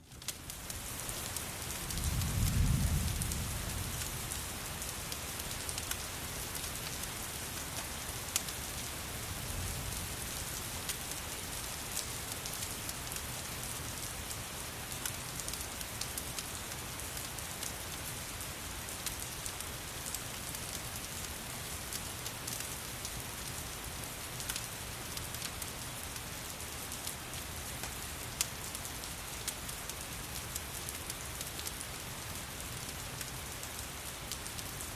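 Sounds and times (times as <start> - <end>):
steady rain falling: 0.0 - 34.9
wood fire crackling: 0.1 - 34.9.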